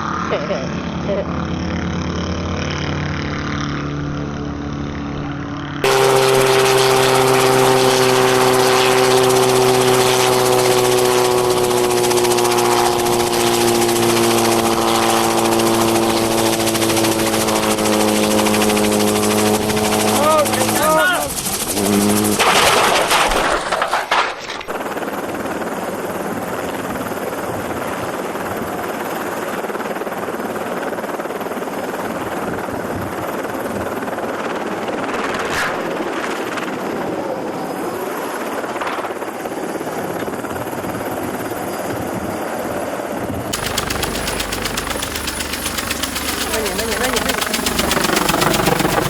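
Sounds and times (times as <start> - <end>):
helicopter rushing din: 0.0 - 49.0
helicopter rotor chopping: 0.8 - 24.0, 24.8 - 37.1, 42.4 - 49.0.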